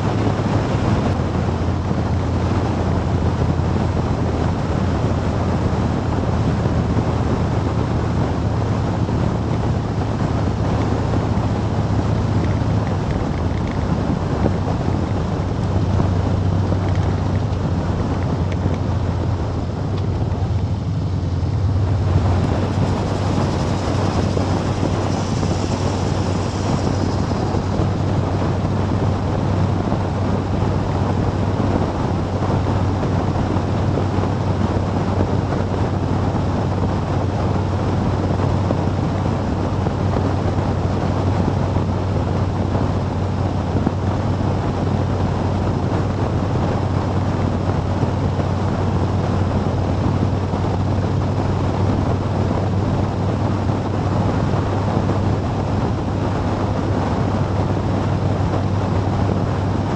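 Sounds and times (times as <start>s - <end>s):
engine and road noise hum: 0.0s - 59.9s
wind rushing over microphone: 0.0s - 59.9s.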